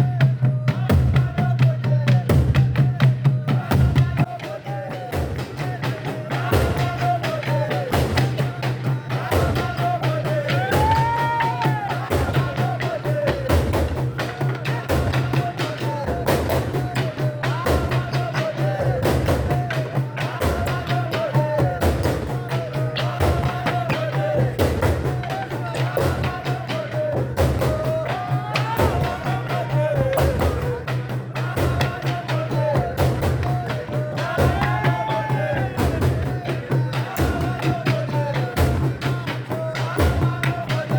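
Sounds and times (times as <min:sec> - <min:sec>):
fast drumming: 0:00.0 - 0:40.9.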